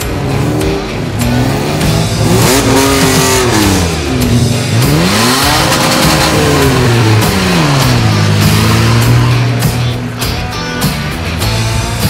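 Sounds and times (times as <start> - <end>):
off-road vehicles driving past: 0.0 - 12.0.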